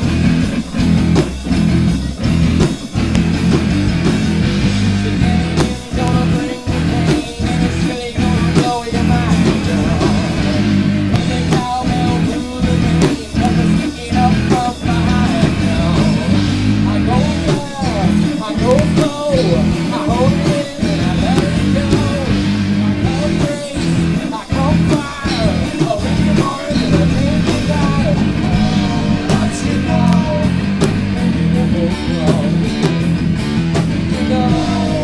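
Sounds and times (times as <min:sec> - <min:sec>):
bass guitar: 0:00.0 - 0:35.0
drums: 0:00.0 - 0:35.0
electric guitar: 0:00.0 - 0:35.0.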